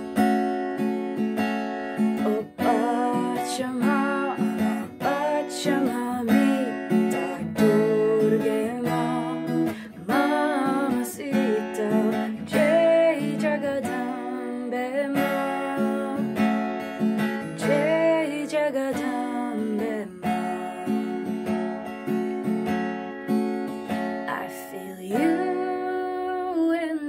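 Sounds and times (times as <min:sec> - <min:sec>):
acoustic guitar strumming: 0:00.0 - 0:27.0
woman singing: 0:02.0 - 0:21.8, 0:23.9 - 0:27.0.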